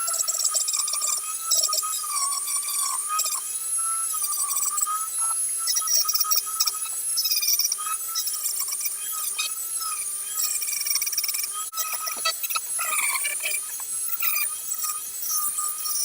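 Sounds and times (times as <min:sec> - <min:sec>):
rotary tool whine: 0:00.0 - 0:16.0.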